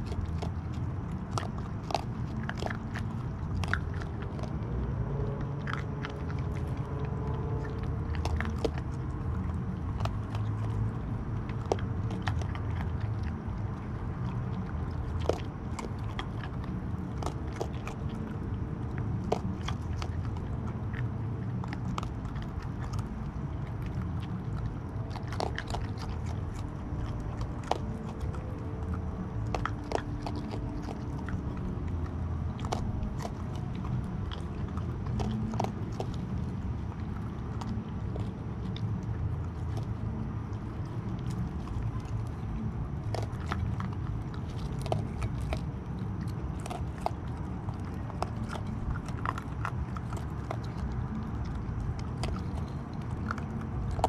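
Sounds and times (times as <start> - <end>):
animals crunching kibble: 0.0 - 54.0
low rumble: 0.0 - 54.0.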